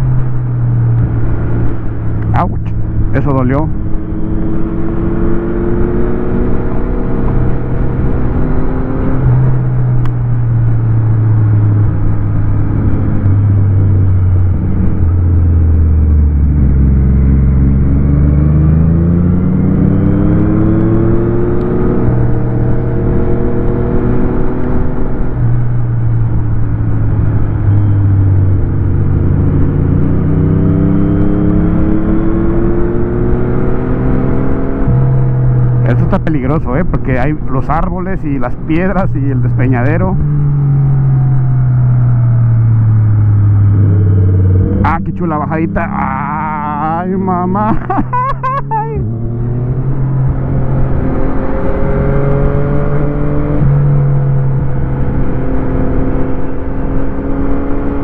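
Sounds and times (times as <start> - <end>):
motorcycle engine: 0.0 - 37.5, 38.1 - 58.0.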